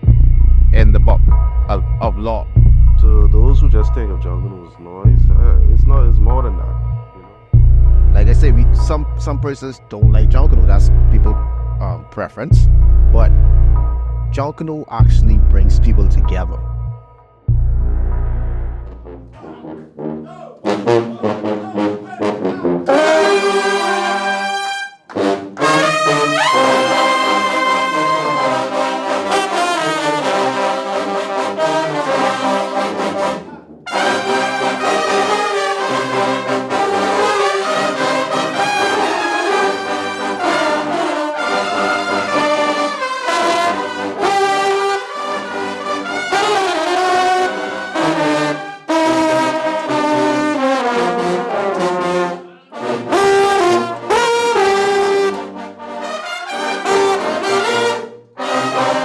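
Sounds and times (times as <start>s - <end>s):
brass section playing: 0.0s - 59.0s.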